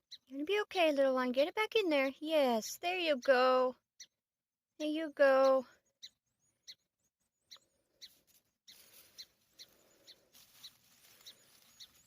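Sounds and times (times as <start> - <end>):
small bird chirping: 0.0 - 0.4, 1.9 - 12.0.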